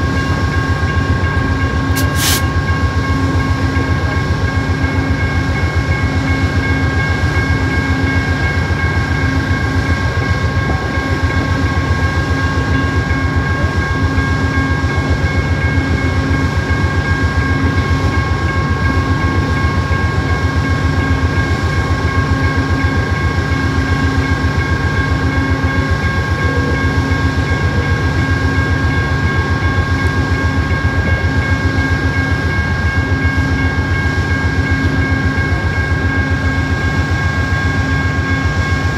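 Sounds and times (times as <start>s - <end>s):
diesel locomotive idling: 0.0s - 38.9s.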